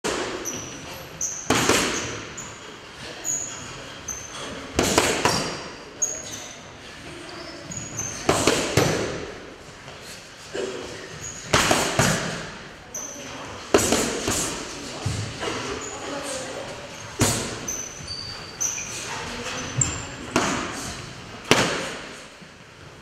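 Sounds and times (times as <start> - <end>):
shoes squeaking on floor: 0.1 - 9.1, 10.0 - 21.2.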